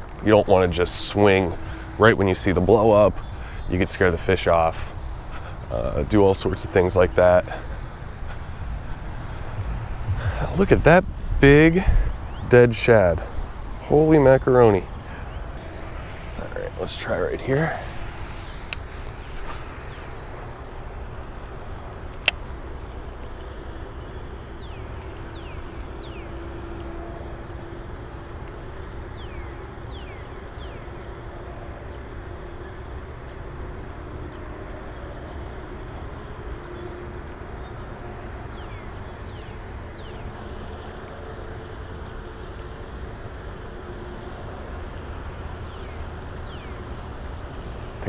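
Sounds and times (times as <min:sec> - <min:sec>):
faint steady hum: 0:00.0 - 0:48.0
low outdoor rumble: 0:00.0 - 0:48.0.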